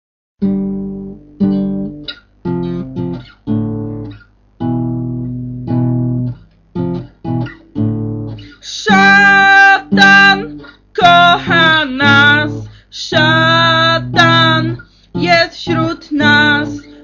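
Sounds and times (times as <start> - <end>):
acoustic guitar strumming: 0.4 - 17.0.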